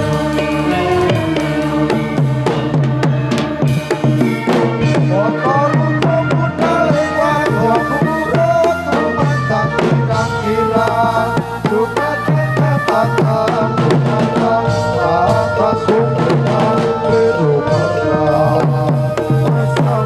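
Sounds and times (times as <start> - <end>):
hand drums playing: 0.0 - 20.0
live band music: 0.0 - 20.0.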